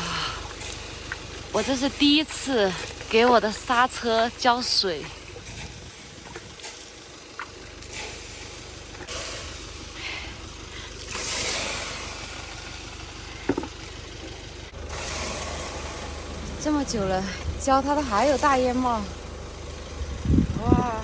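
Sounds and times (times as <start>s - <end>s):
water hissing on hot metal: 0.0s - 20.0s.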